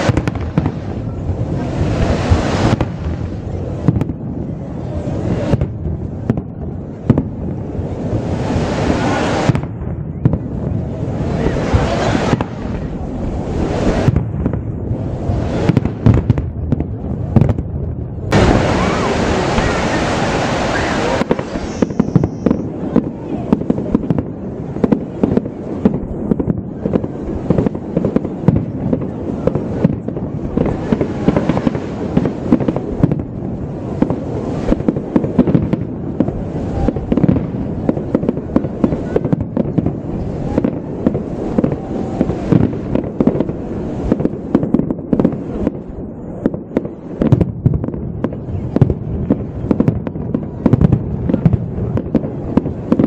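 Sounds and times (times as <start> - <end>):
fireworks bursts and bangs: 0.0 - 53.0.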